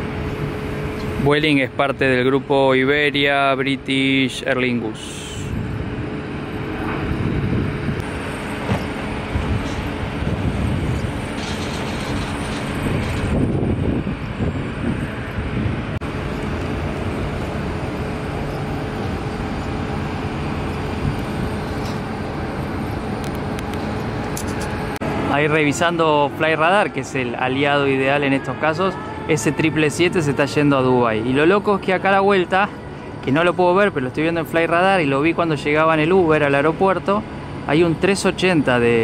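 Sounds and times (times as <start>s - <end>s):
apron machinery hum: 0.0s - 39.0s
jet aircraft rumble: 0.0s - 39.0s.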